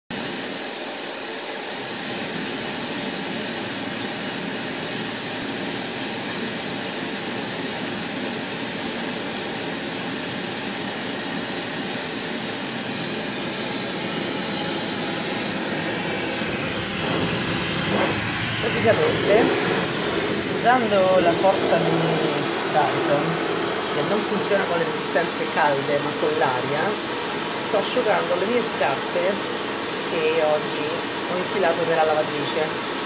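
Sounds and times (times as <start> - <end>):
hair dryer blowing air: 0.2 - 33.0.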